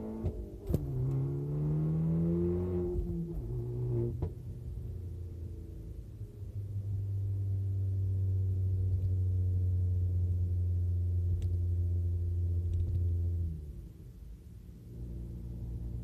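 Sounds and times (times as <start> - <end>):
muffled car exhaust drone: 0.0 - 16.0.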